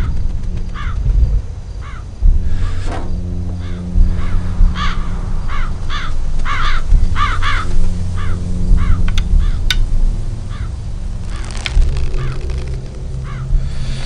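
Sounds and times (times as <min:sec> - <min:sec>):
low rumble: 0:00.0 - 0:14.0
crows cawing: 0:00.7 - 0:01.0, 0:01.8 - 0:09.8, 0:10.4 - 0:14.0.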